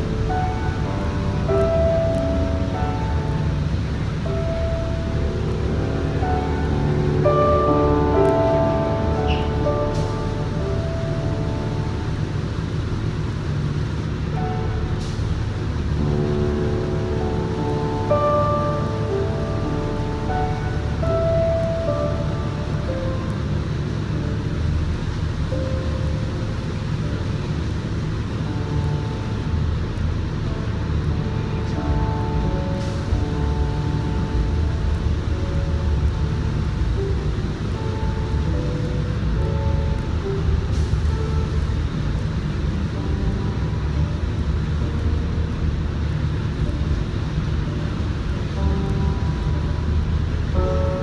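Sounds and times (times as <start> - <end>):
low machine rumble: 0.0 - 51.0
music playing: 0.0 - 51.0.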